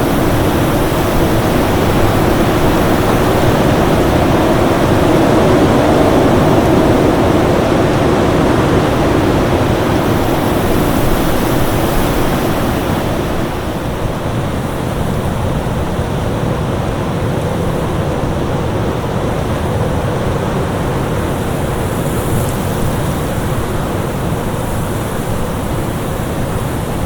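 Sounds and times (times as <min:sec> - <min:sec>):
storm wind blowing: 0:00.0 - 0:27.0.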